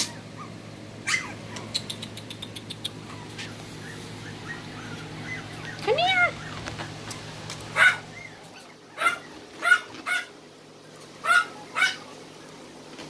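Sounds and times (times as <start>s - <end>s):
puppy yapping barks: 0.0s - 7.0s, 7.7s - 10.4s, 11.2s - 12.2s.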